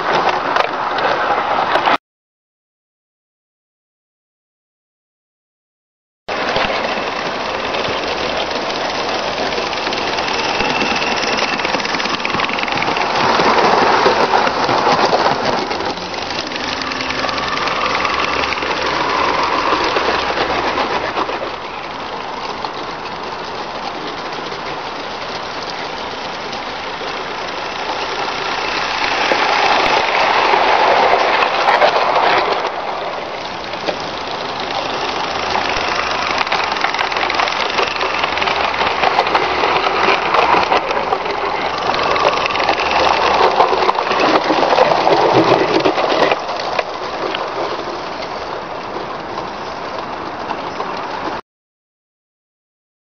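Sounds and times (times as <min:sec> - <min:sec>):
wagons rattling over rail joints: 0:00.0 - 0:02.0, 0:06.3 - 0:51.4
steam locomotive chuffing: 0:06.3 - 0:51.4.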